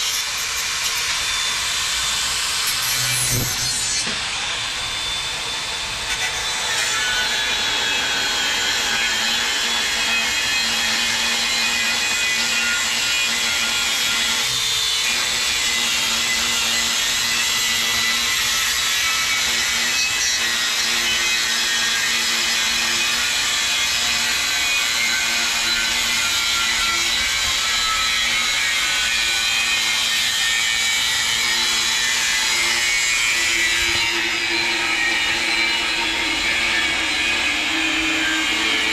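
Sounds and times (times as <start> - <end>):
power tool grinding metal: 0.0 - 38.9.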